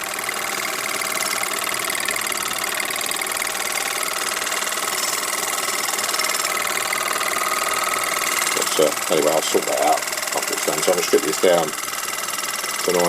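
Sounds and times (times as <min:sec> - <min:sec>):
model steam engine running: 0:00.0 - 0:13.0.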